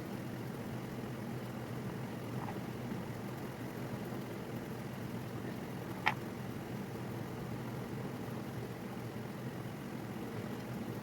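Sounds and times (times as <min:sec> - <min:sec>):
low hum-like hiss: 0:00.0 - 0:11.0.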